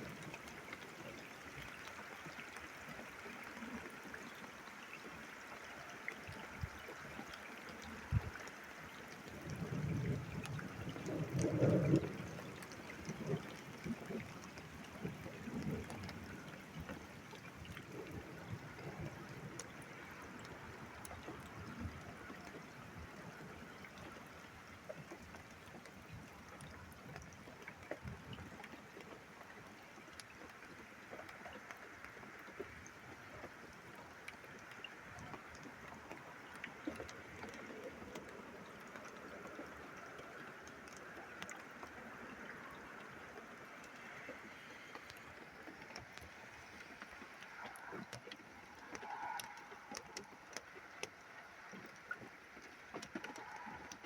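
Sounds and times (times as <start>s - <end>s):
drip ticks: 0.0s - 54.0s
steady rain: 0.0s - 54.0s
water trickling and running off: 0.0s - 54.0s.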